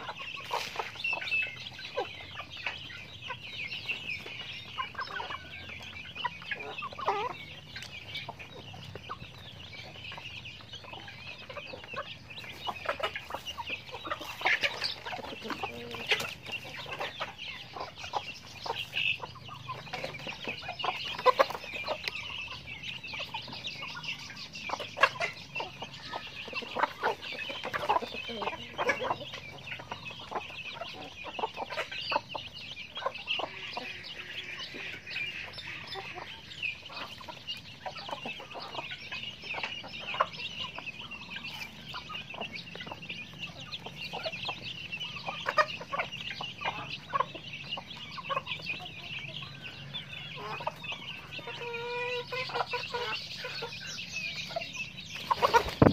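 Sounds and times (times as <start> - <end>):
chicks peeping: 0.0 - 55.9
hens clucking: 0.0 - 55.9.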